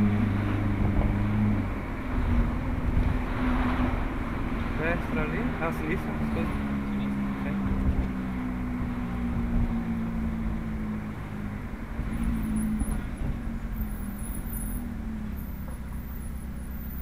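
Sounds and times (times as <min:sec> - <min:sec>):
car engine hum from cabin: 0:00.0 - 0:17.0
road rumble: 0:00.0 - 0:17.0.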